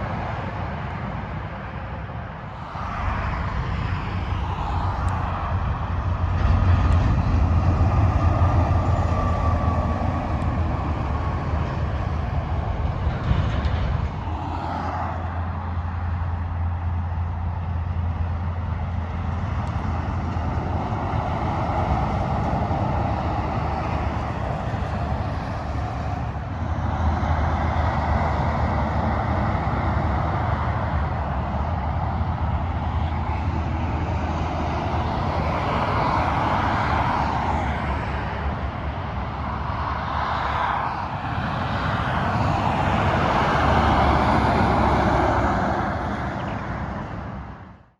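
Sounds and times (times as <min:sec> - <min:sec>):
freeway traffic: 0:00.0 - 0:47.9
heavy trucks passing: 0:00.0 - 0:47.9.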